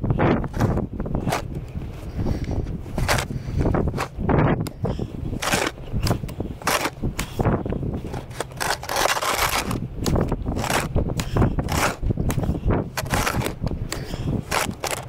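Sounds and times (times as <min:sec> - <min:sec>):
snow crunching and scraping: 0:00.2 - 0:15.0.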